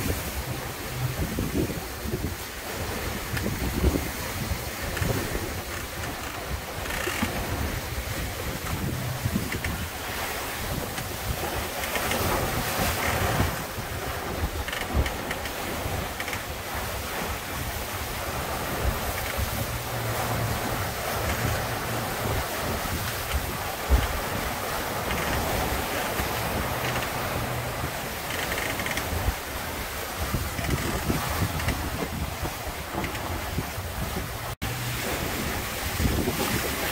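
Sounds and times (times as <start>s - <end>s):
sail creaking: 0.0s - 36.9s
water rushing past hull: 0.0s - 36.9s
wind buffeting microphone: 0.0s - 36.9s.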